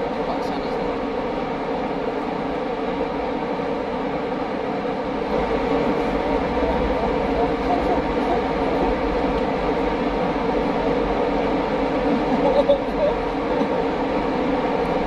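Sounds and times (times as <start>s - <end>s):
factory machinery drone: 0.0s - 15.0s.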